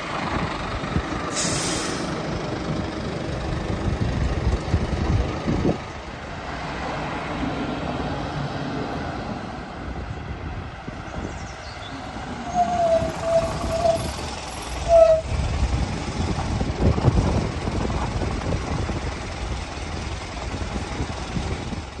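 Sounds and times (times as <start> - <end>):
fire engine passing by: 0.0 - 22.0.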